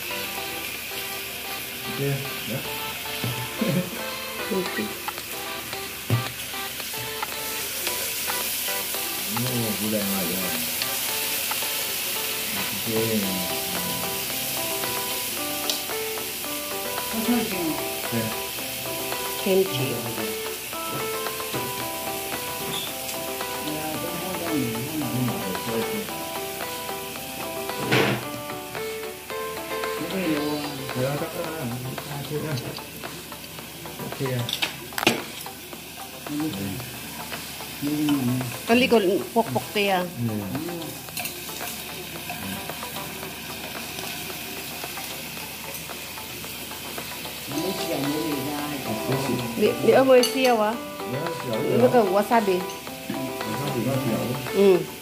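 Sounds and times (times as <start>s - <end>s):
beef sizzling: 0.0s - 55.0s.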